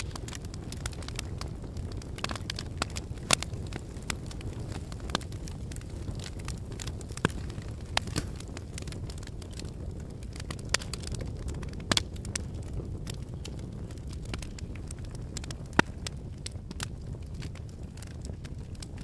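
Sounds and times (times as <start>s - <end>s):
low rush of burning logs: 0.0s - 19.0s
wood fire crackling and popping: 0.0s - 19.0s.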